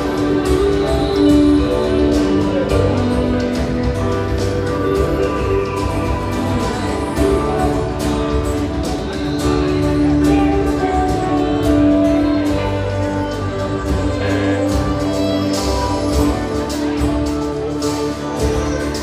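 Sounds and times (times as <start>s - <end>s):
live band with guitars: 0.0s - 19.0s.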